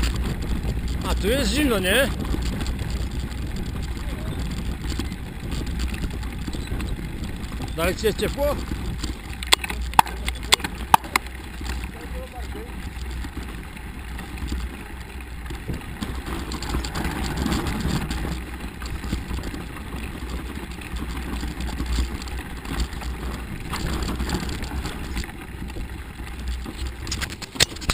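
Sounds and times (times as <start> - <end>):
bike rattling: 0.0 - 27.9
tyres crunching on snow: 0.0 - 27.9
wind rumble on microphone: 0.0 - 27.9.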